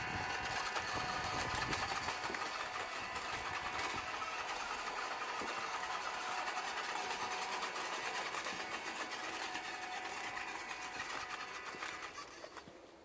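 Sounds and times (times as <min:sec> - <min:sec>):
electric motor and gears whining: 0:00.0 - 0:12.9.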